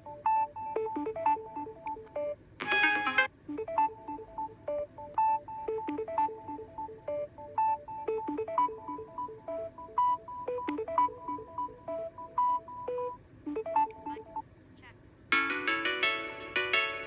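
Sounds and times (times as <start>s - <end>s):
electronic phone ringtone melody: 0.0s - 14.4s.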